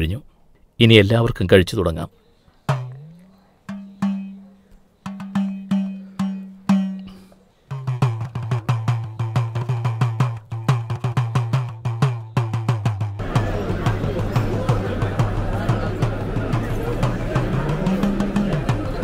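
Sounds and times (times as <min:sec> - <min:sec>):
tuned drum strokes: 0:02.7 - 0:19.0.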